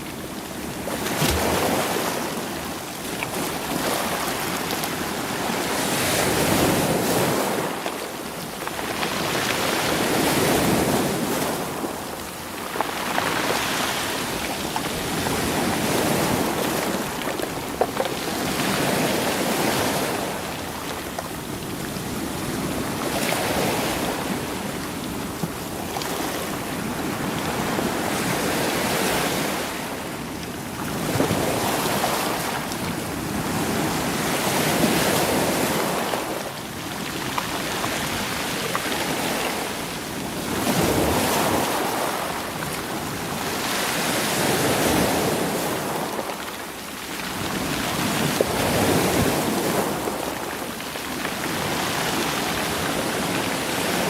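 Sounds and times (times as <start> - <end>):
waves washing over stony shore: 0.0 - 54.0.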